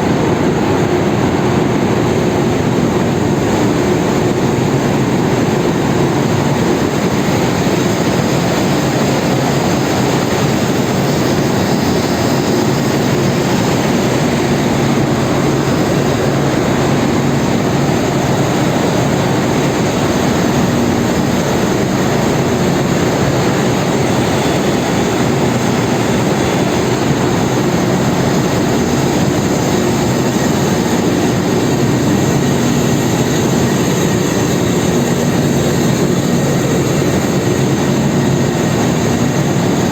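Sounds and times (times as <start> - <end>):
engine room machinery din: 0.0 - 39.9.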